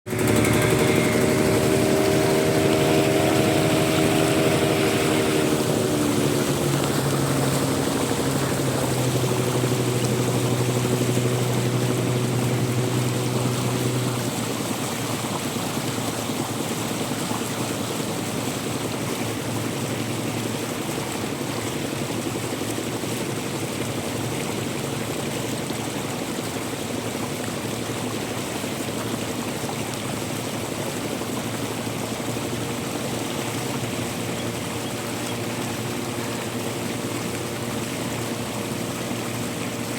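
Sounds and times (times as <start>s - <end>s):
running water rushing: 0.0s - 39.9s
droning engine hum: 0.1s - 39.9s.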